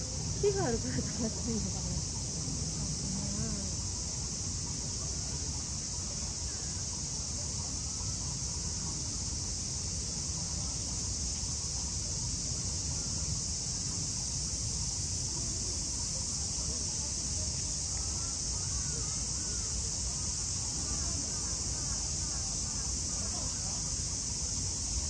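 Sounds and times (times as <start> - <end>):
cicada chorus drone: 0.0 - 25.0.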